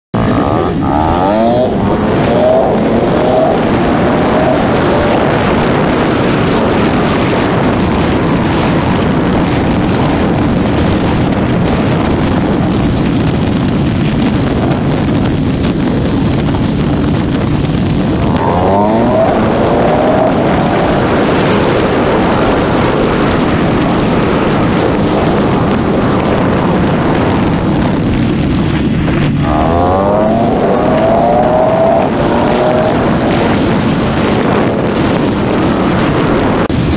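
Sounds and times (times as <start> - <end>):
motorcycle engine running: 0.1 - 36.9
wind rush on microphone: 0.1 - 36.9.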